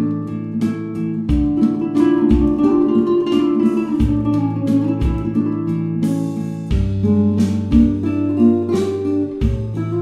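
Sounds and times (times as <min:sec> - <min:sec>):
acoustic guitar chords: 0:00.0 - 0:10.0
steady bass: 0:00.0 - 0:10.0.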